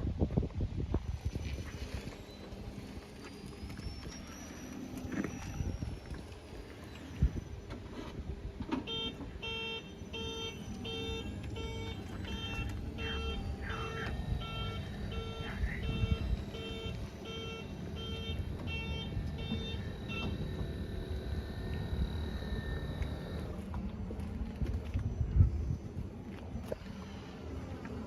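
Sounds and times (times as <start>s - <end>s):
truck warning beeper: 1.2s - 23.7s.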